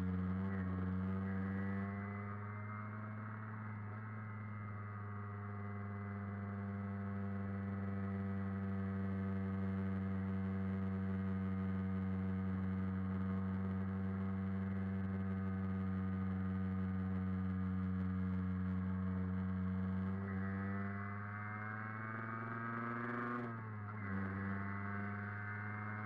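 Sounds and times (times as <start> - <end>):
moped engine running: 0.0 - 26.0.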